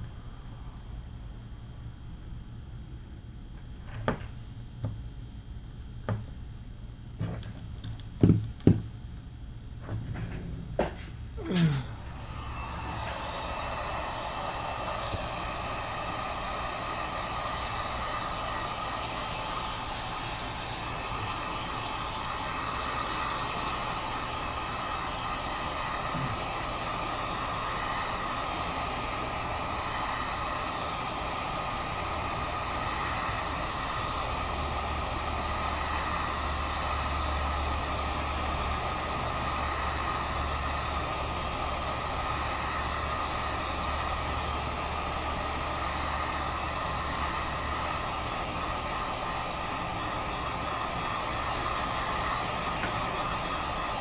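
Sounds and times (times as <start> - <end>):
heat gun blowing: 10.2 - 54.0.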